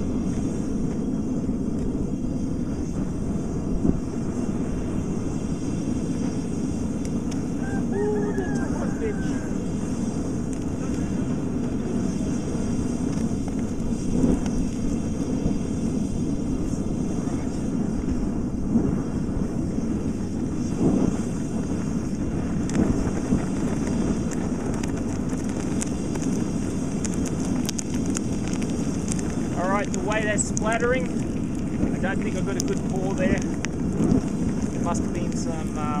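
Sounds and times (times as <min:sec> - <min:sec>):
molten metal spitting and crackling: 0:00.0 - 0:36.0.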